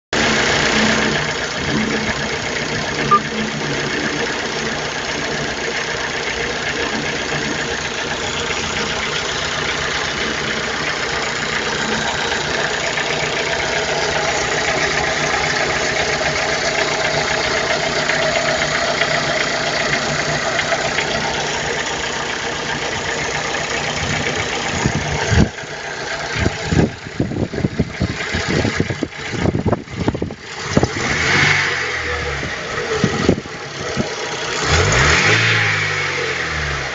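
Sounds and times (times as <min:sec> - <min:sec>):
car engine idling: 0:00.2 - 0:36.9.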